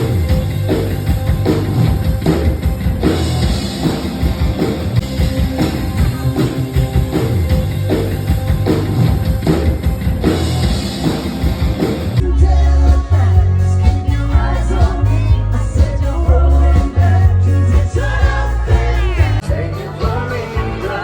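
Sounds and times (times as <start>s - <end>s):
instrumental rock music: 0.0s - 21.0s.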